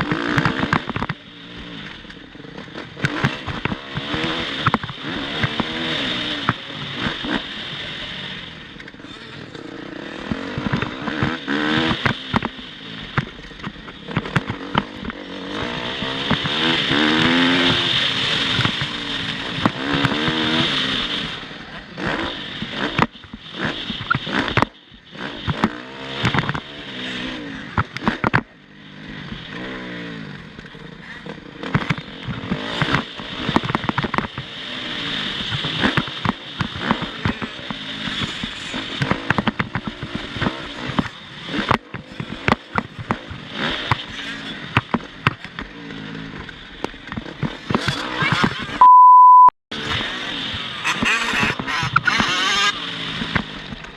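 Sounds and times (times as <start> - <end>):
motocross bike engine revving: 0.0 - 48.8, 49.7 - 53.9.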